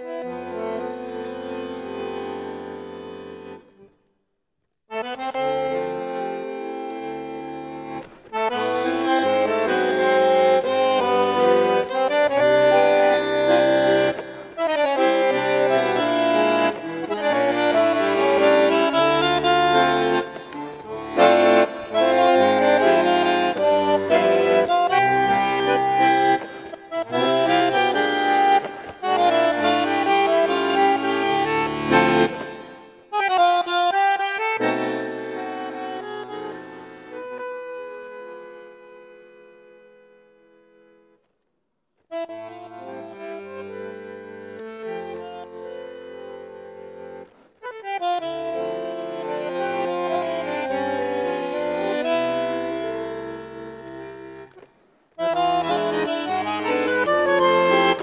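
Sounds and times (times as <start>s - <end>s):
bandoneon playing chords: 0.0s - 3.8s, 4.9s - 41.2s, 42.1s - 58.0s.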